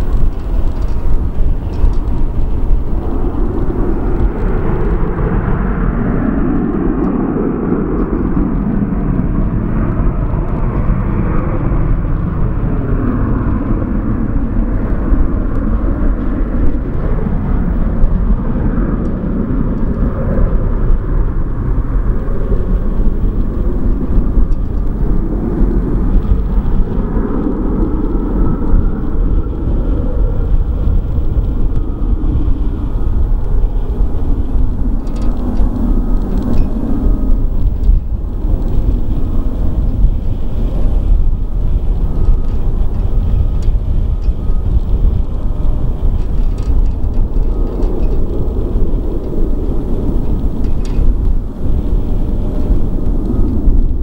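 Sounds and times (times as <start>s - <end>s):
jet engine rumble at takeoff: 0.0s - 54.0s.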